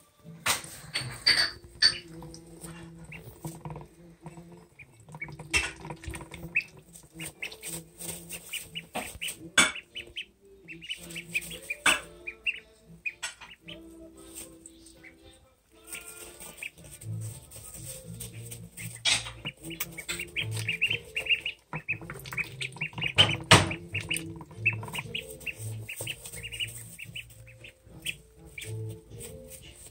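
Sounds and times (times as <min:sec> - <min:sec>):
ducklings peeping: 0:00.4 - 0:29.9.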